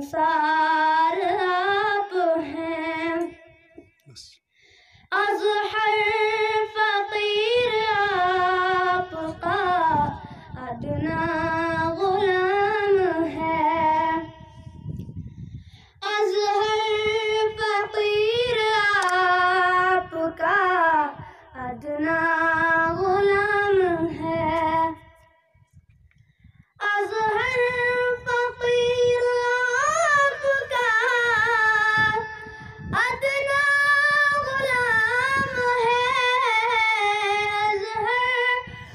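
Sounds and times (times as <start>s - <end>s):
boy singing into microphone: 0.0s - 4.0s, 5.1s - 14.6s, 16.0s - 25.1s, 26.8s - 38.9s.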